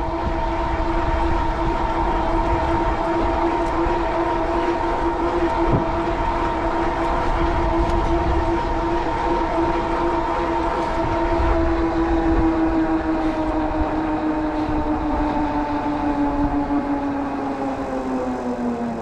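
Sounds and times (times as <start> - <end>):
e-bike motor hum: 0.0 - 19.0
wind rumble on microphone: 0.0 - 19.0.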